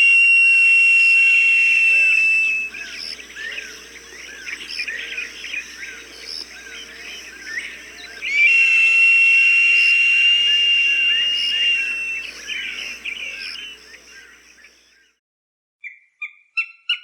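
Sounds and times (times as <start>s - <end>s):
high whistled hawk call: 0.0s - 14.7s.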